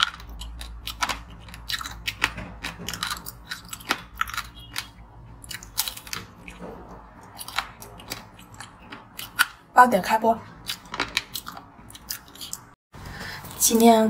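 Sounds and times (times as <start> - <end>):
crunchy biting and chewing: 0.0 - 9.7, 10.5 - 12.8.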